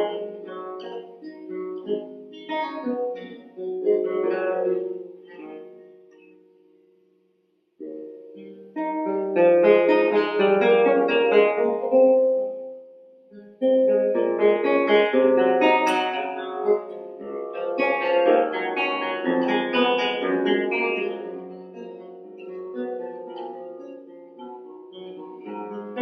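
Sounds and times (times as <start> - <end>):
plucked guitar music: 0.0 - 7.1, 7.8 - 26.0.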